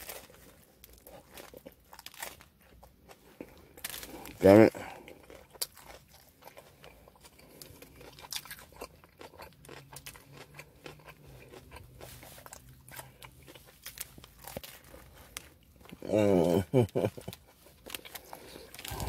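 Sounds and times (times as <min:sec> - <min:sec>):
small crunches: 0:00.0 - 0:16.1, 0:16.8 - 0:19.0
chewing sandwich: 0:00.0 - 0:19.0.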